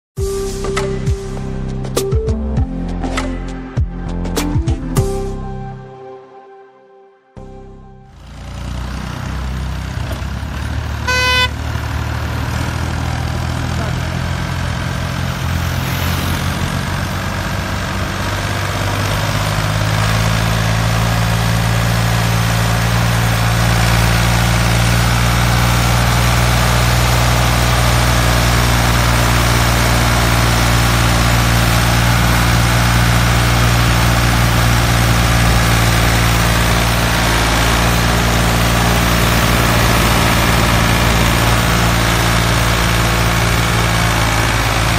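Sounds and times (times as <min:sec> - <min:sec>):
engine idling: 0:08.0 - 0:44.9.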